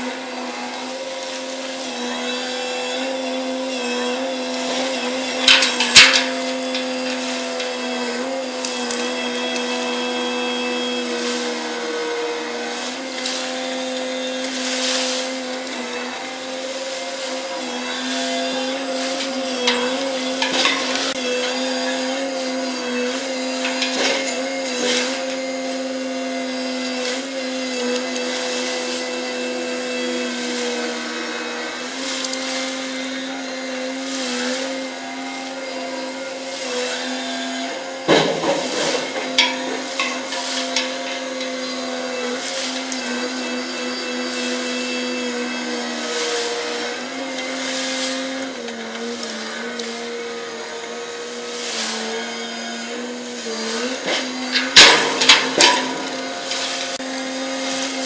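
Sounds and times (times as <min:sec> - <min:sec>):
crane machinery whining hum: 0:00.0 - 0:51.1, 0:52.5 - 0:58.0.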